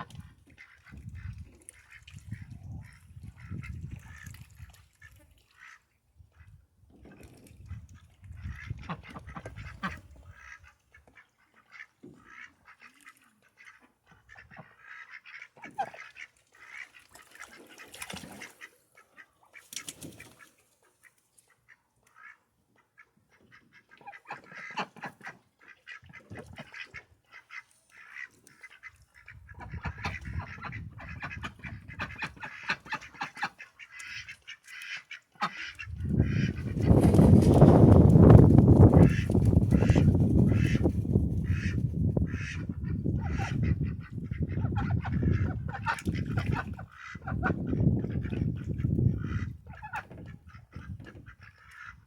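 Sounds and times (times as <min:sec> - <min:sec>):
ducks quacking: 0:00.0 - 0:04.4, 0:08.4 - 0:52.0.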